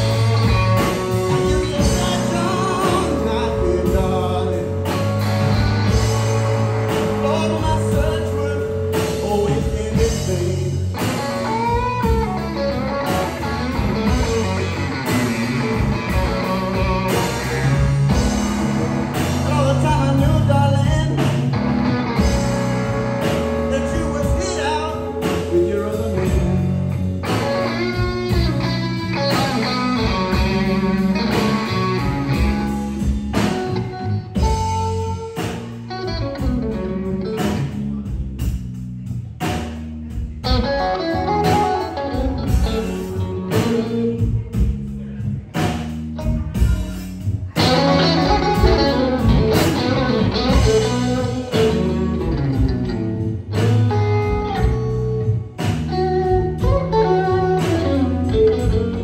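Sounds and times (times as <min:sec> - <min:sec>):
drum kit: 0:00.0 - 0:59.0
electric bass: 0:00.0 - 0:59.0
electric guitar with bent notes: 0:00.0 - 0:59.0.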